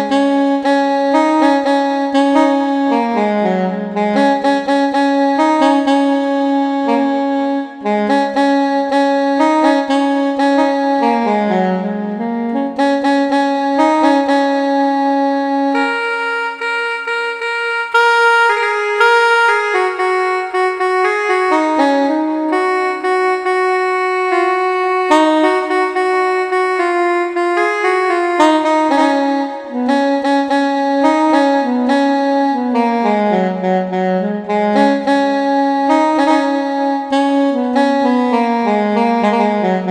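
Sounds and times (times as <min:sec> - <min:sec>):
synthesized saxophone melody: 0:00.0 - 0:39.9.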